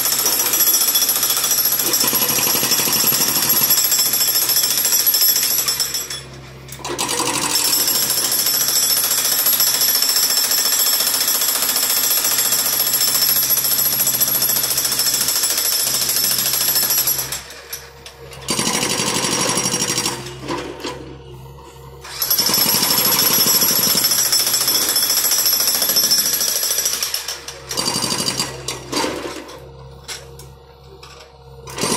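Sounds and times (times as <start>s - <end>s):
hydraulic breaker hammering concrete: 0.0s - 17.8s, 18.4s - 21.1s, 22.0s - 29.6s, 31.7s - 31.9s.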